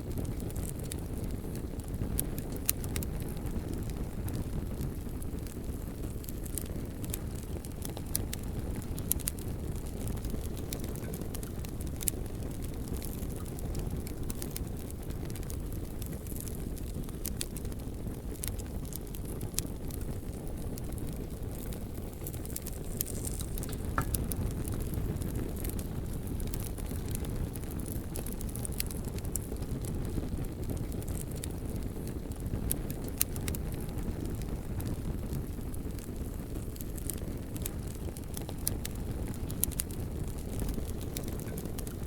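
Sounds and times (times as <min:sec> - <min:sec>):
bonfire burning: 0:00.0 - 0:42.0
wood crackling and popping: 0:00.0 - 0:42.0.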